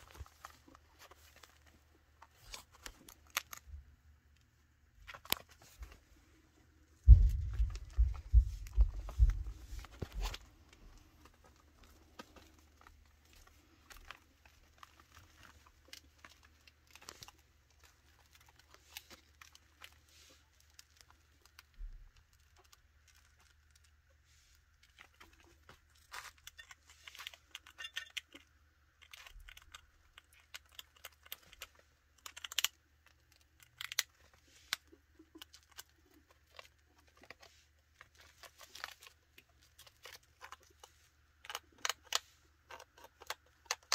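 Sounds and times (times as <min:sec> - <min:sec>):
chinchillas gnawing wood: 0:00.0 - 0:04.4, 0:07.0 - 0:43.9.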